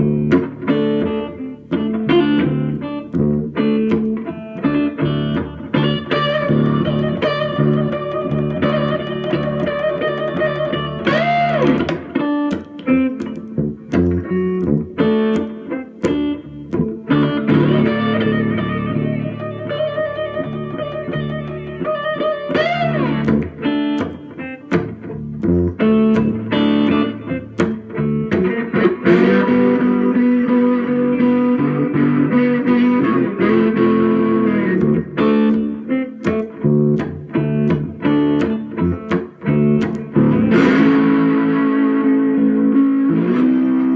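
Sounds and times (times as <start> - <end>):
slide electric guitar: 0.0 - 43.9.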